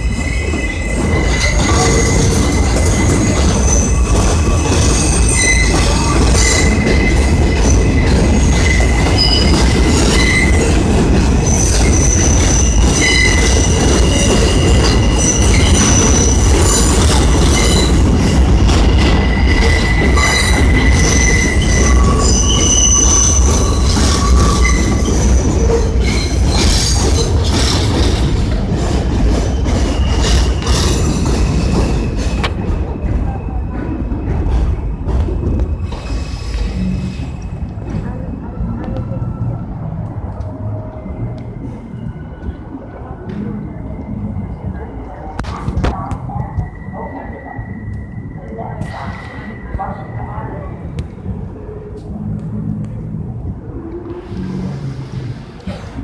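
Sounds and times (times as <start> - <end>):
train wheels squealing on rails: 0.0 - 51.9
low train rumble: 0.0 - 56.0.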